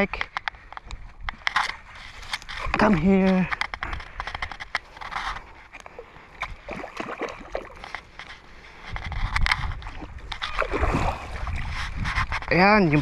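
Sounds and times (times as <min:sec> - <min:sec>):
water sloshing and splashing: 0:01.0 - 0:13.0.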